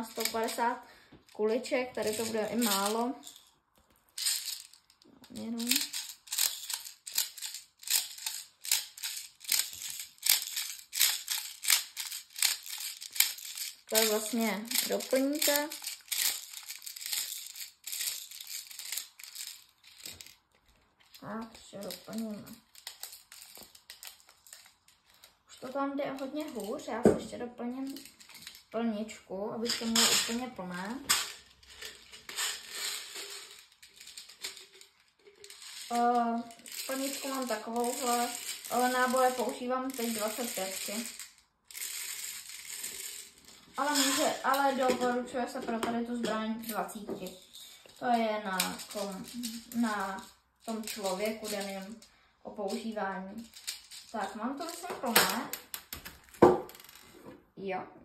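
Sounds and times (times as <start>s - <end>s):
plastic pellets rattling: 0.0s - 3.5s, 4.2s - 28.8s, 29.6s - 57.1s.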